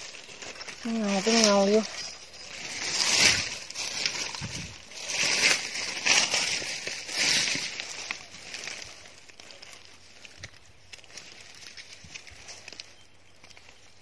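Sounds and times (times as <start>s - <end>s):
dry leaves crunching and rustling: 0.0s - 14.0s.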